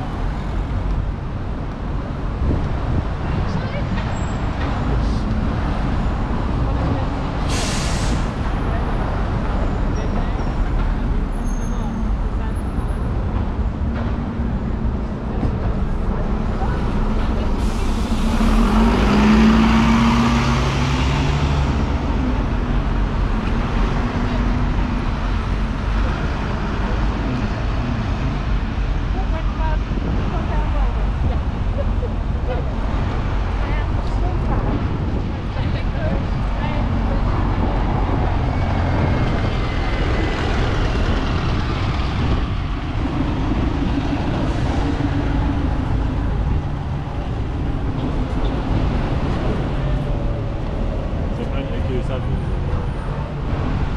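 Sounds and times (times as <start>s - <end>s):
bus engine humming: 0.0s - 53.9s
city traffic noise: 0.0s - 53.9s.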